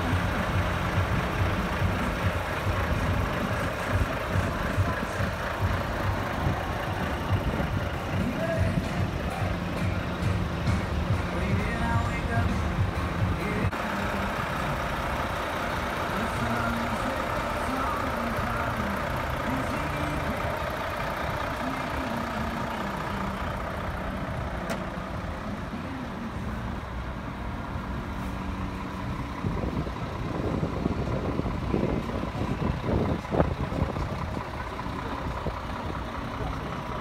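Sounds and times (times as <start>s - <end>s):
truck engines running: 0.0s - 37.0s.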